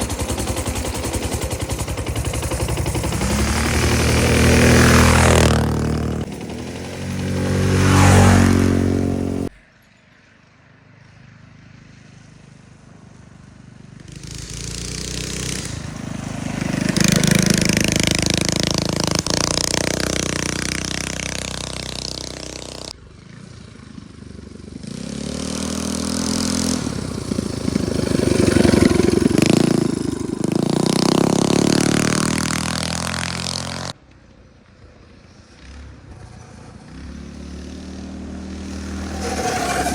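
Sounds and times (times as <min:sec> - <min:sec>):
minibike engines revving: 0:00.0 - 0:09.5, 0:13.8 - 0:34.0, 0:34.9 - 0:39.9.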